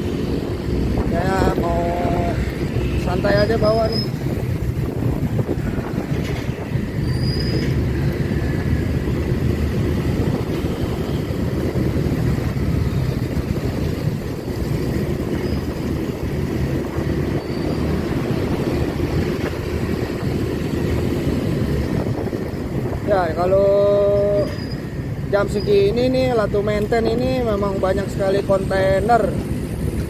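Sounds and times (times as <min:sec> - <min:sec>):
road noise: 0:00.0 - 0:30.0
wind noise: 0:00.0 - 0:30.0.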